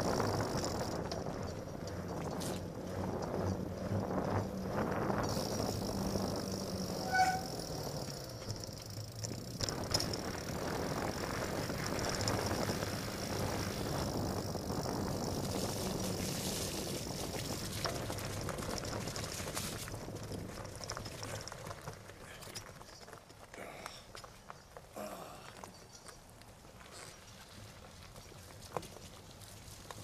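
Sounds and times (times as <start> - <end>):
bike rattling: 0.0 - 30.0
bike tyres rumbling on trail: 0.0 - 30.0.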